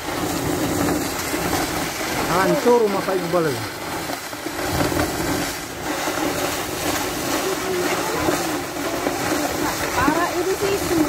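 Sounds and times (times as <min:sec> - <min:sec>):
mud eruption rushing hiss: 0:00.0 - 0:11.0.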